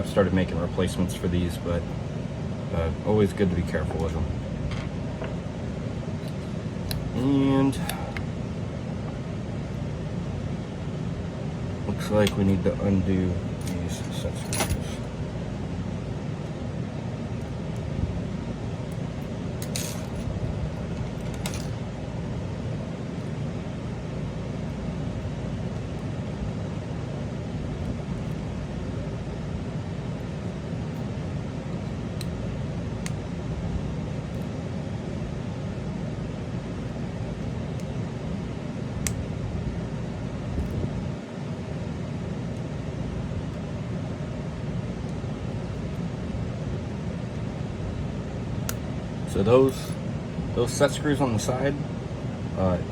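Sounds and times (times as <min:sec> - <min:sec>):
low background hum: 0:00.0 - 0:52.9.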